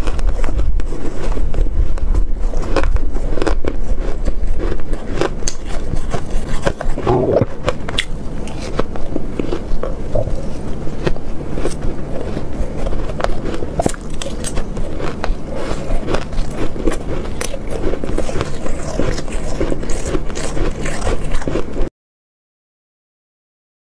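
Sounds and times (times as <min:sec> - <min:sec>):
ice crunching while chewed: 0:00.0 - 0:21.9.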